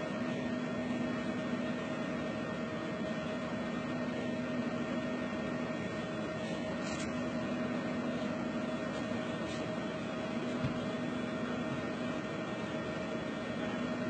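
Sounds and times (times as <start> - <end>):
machine hum with hiss: 0.0 - 14.0.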